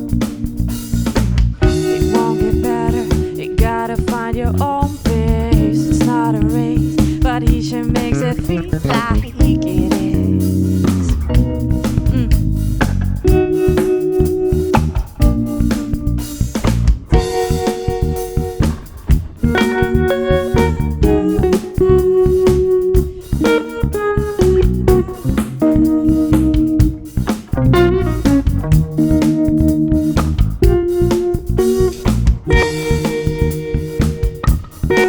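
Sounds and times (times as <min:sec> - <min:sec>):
drum kit: 0:00.0 - 0:35.0
electric bass: 0:00.0 - 0:35.0
guitar melodic line: 0:00.0 - 0:35.0.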